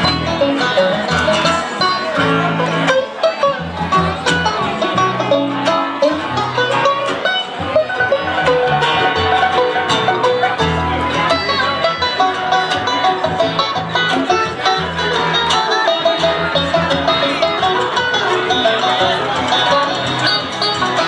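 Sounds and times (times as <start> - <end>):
acoustic guitar: 0.0 - 21.0
mandolin: 0.0 - 21.0
upright bass: 0.0 - 21.0.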